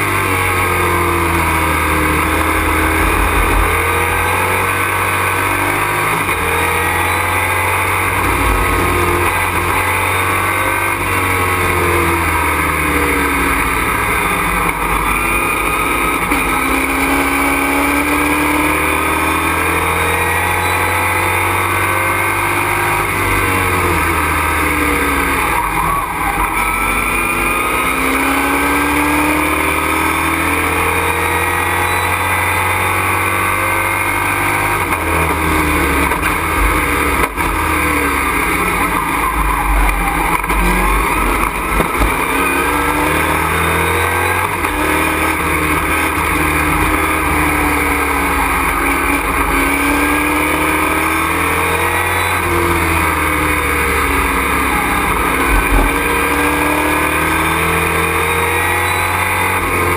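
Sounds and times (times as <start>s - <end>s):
race truck engine: 0.0s - 59.9s.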